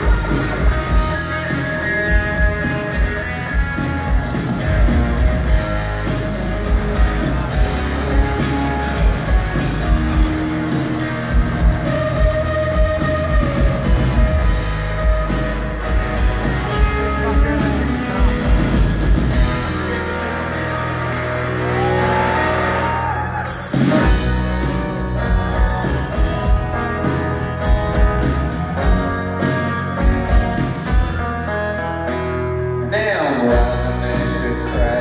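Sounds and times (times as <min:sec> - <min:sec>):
drum kit beat: 0:00.0 - 0:20.5, 0:21.7 - 0:31.6
electric guitars: 0:00.0 - 0:35.0.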